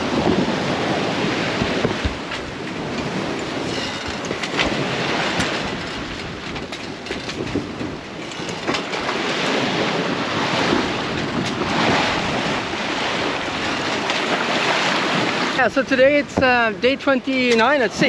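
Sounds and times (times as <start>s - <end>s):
rough sea water rushing: 0.0s - 18.0s
wind: 0.0s - 18.0s.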